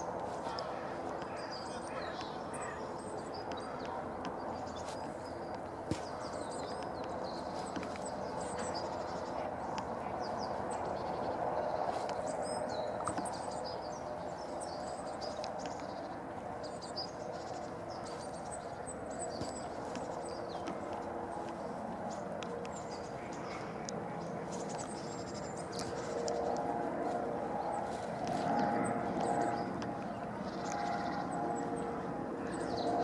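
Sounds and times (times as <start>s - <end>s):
birds chirping: 0.0s - 33.0s
low background noise: 0.0s - 33.0s.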